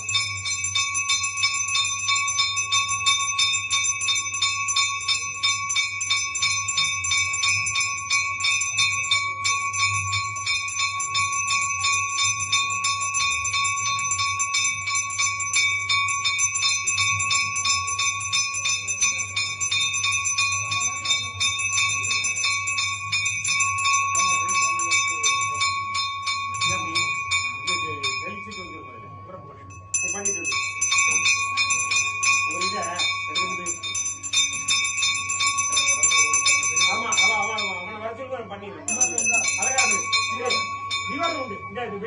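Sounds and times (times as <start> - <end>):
metal bell ringing rapidly: 0.0 - 42.0.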